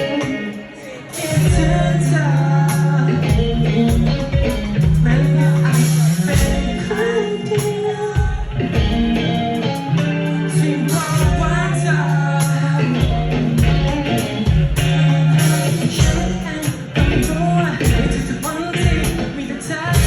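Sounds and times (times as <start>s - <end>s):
person singing: 0.0s - 20.0s
pop-rock song: 0.0s - 20.0s.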